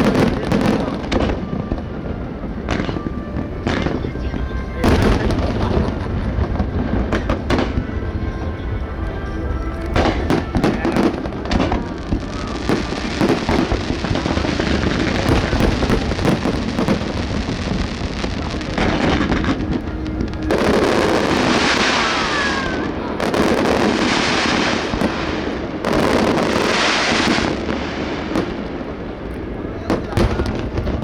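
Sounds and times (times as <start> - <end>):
dense fireworks crackling: 0.0 - 31.0
fireworks bangs and booms: 0.0 - 31.0.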